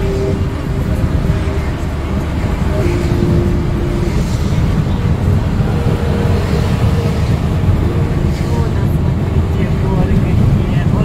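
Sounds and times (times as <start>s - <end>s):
faint hum shifting pitch: 0.0s - 11.0s
vehicle road and engine rumble: 0.0s - 11.0s.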